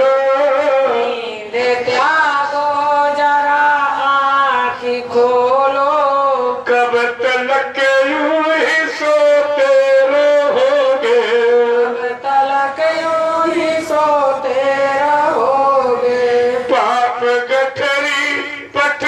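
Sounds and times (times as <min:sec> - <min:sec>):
devotional singing with held notes: 0:00.0 - 0:19.0.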